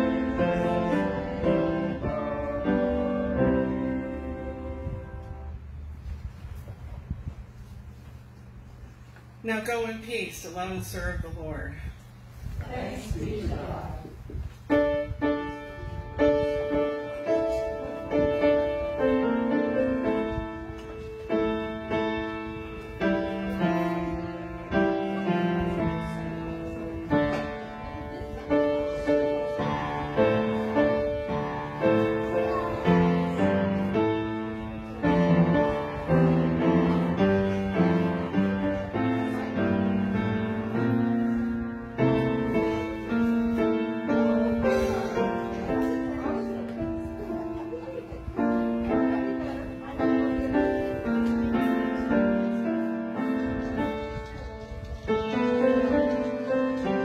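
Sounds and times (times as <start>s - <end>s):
slow piano chords: 0.0s - 6.8s, 12.9s - 57.0s.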